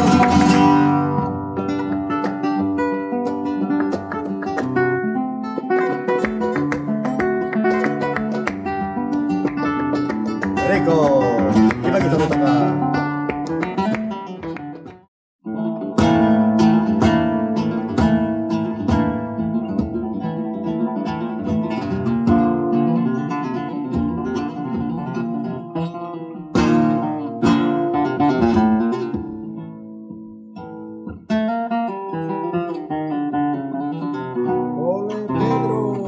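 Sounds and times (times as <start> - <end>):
flamenco guitar strumming: 0.0 - 36.0
flamenco music: 0.0 - 36.0.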